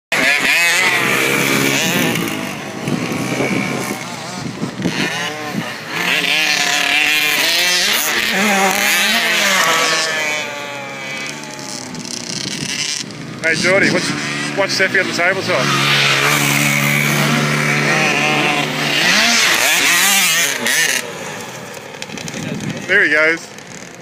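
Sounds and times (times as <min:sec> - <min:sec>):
dirt bike engine revving: 0:00.1 - 0:24.0.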